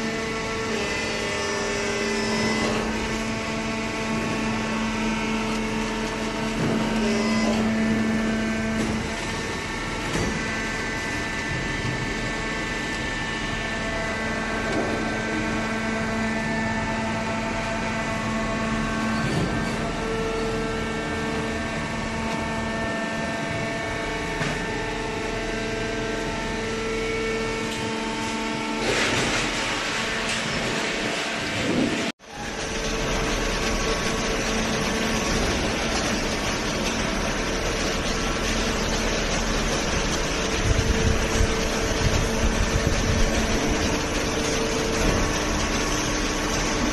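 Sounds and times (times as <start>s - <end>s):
baler mechanical hum: 0.0s - 46.9s.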